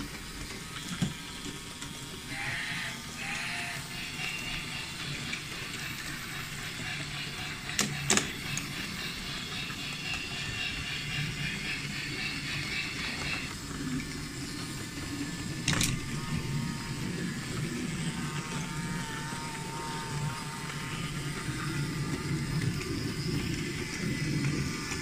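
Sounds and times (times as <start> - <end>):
toy train motors whirring: 0.0 - 25.0.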